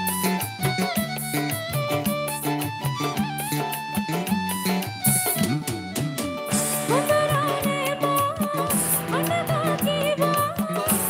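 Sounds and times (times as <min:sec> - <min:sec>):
bass line: 0:00.0 - 0:11.0
drum kit with cymbals: 0:00.0 - 0:11.0
sliding lead melody: 0:00.0 - 0:11.0.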